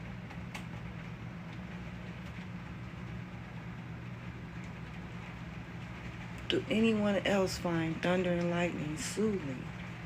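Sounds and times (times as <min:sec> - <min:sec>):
constant low hum: 0:00.0 - 0:10.0.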